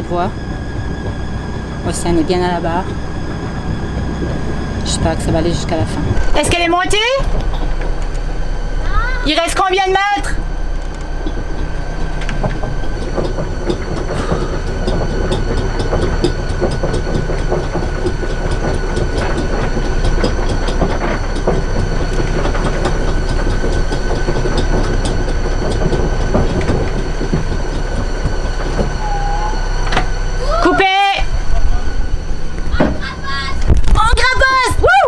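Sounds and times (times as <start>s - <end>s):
boat engine running: 0.0s - 35.0s
windlass motor whine: 0.0s - 35.0s.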